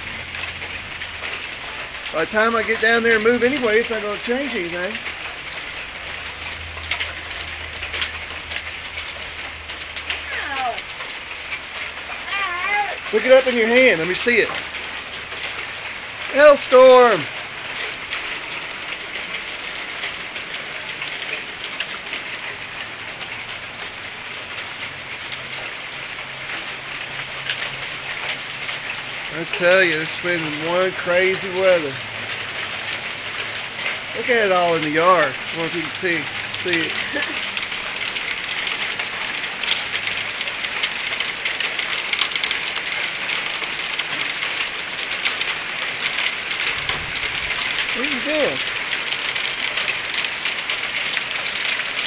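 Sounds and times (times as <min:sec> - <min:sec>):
hailstones ticking: 0:00.0 - 0:52.0
rain patter: 0:00.0 - 0:52.0.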